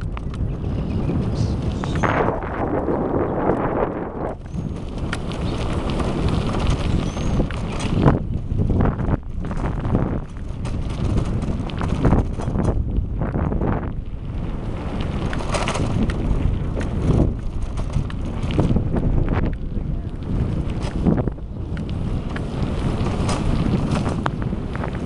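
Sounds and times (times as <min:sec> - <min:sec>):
bicycle rattles: 0:00.0 - 0:25.0
wind buffeting microphone: 0:00.0 - 0:25.0.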